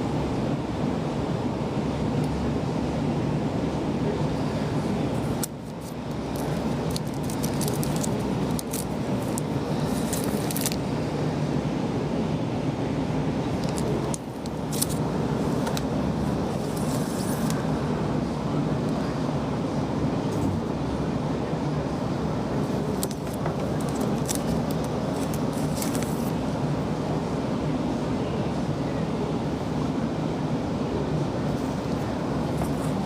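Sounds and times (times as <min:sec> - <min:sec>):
steady low rumble: 0:00.0 - 0:28.6.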